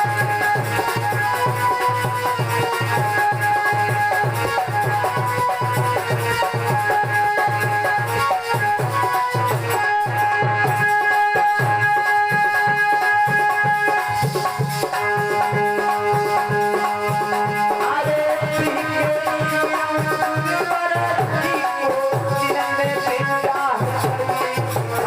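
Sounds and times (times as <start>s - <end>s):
hand drum beat: 0.0s - 25.0s.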